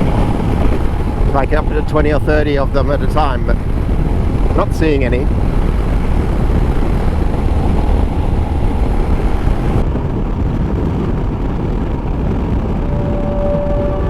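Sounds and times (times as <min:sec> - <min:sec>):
steady tone: 0:00.0 - 0:10.0, 0:12.5 - 0:14.0
motorcycle engine rumble: 0:00.0 - 0:14.0
wind noise: 0:00.0 - 0:14.0.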